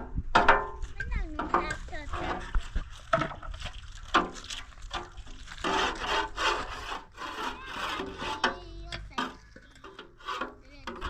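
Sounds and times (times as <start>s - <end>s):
clothes scrubbed by hand: 1.6s - 11.0s.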